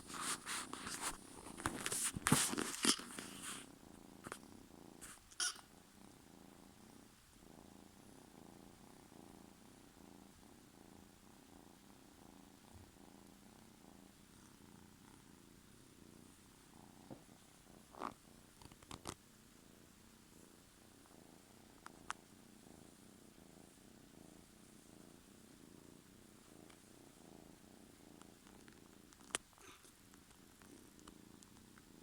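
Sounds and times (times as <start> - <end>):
kitten purring: 0.0 - 32.0.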